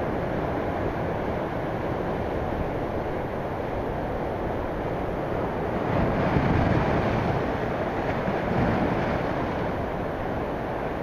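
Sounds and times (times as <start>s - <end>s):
surf breaking and washing in: 0.0s - 11.0s.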